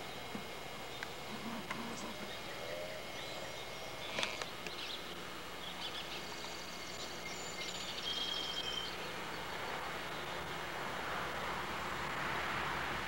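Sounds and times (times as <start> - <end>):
birds chirping: 0.0 - 10.8
outdoor background hiss: 0.0 - 13.0.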